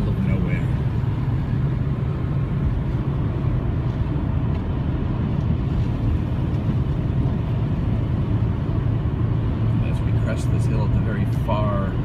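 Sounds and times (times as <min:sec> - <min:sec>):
car interior road and engine rumble: 0:00.0 - 0:12.0.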